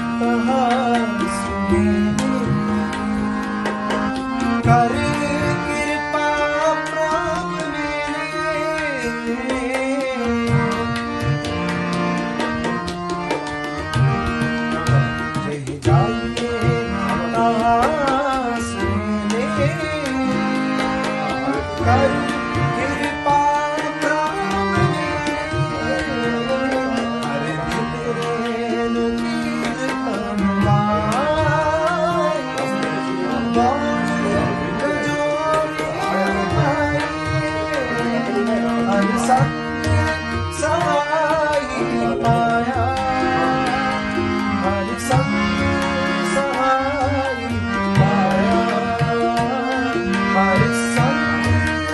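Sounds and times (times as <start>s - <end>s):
man singing ornamented line: 0.0s - 11.4s, 13.7s - 51.9s
harmonium playing a sustained melody: 0.0s - 51.9s
tabla drumming: 0.0s - 51.9s.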